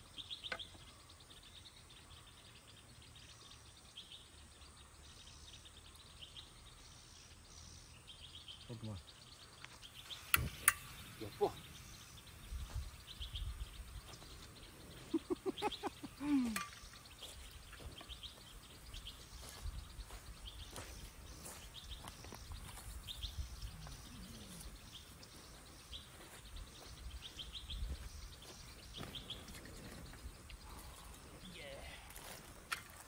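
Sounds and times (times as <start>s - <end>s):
rapid pulsed bird notes: 0.0s - 32.7s
birds trilling: 0.0s - 33.0s.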